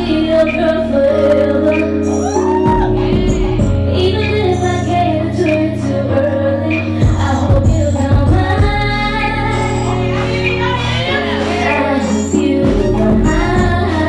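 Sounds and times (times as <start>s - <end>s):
deep bass notes: 0.0s - 14.0s
woman singing: 0.0s - 14.0s.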